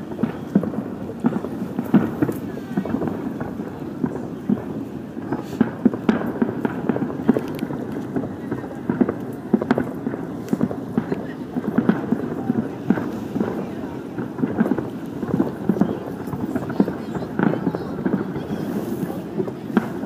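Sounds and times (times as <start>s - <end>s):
distant fireworks pops and bangs: 0.0s - 20.0s
murmur of crowd: 0.0s - 20.0s.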